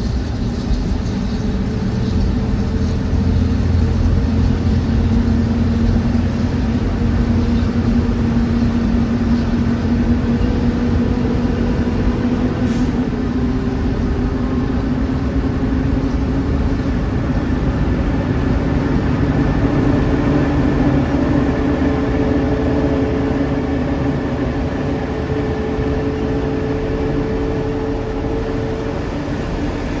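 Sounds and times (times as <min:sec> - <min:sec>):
heavy truck engine running: 0:00.0 - 0:30.0.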